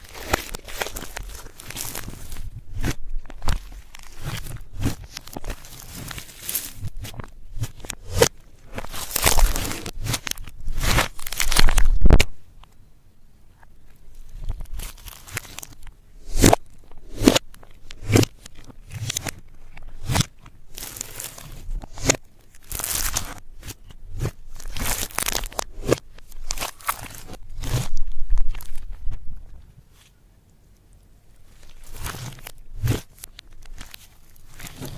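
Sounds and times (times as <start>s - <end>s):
plastic packaging crushed by hand: 0.0s - 12.4s, 14.4s - 29.2s, 31.6s - 34.9s.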